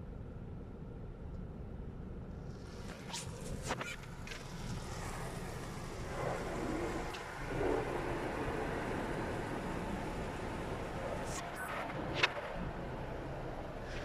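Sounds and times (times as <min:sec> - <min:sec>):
car wash machinery rumble: 0:00.0 - 0:14.0.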